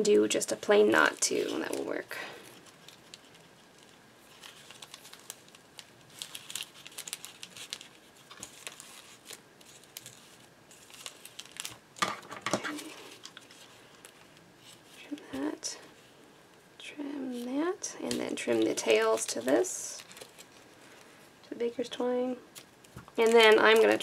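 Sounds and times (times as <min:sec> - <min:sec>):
plastic bag crinkling: 0:00.1 - 0:16.1, 0:17.3 - 0:24.0.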